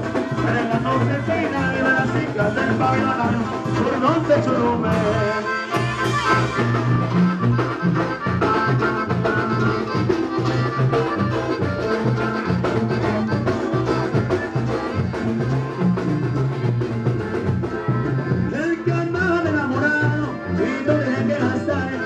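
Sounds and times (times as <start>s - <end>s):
drums and cymbals beat: 0.0s - 21.7s
brass melody: 0.0s - 22.0s
tuba bass line: 0.0s - 22.0s.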